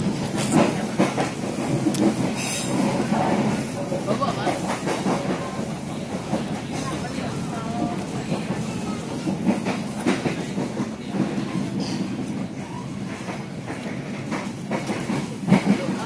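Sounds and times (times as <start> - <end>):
train rumbling on rails: 0.0 - 16.0
train wheels knocking: 0.0 - 16.0.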